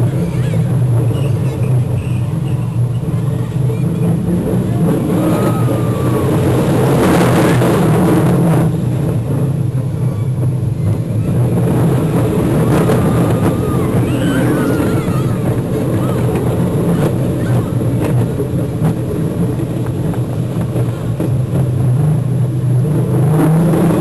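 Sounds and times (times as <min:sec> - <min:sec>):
faint high glides: 0:00.0 - 0:24.0
roller coaster rumbling on track: 0:00.0 - 0:24.0
wind buffeting: 0:00.0 - 0:24.0.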